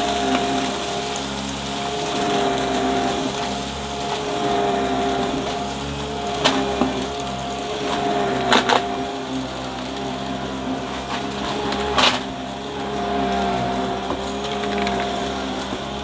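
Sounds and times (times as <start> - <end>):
debris cracking in vacuum: 0.0 - 16.0
vacuum cleaner motor whine: 0.0 - 16.0.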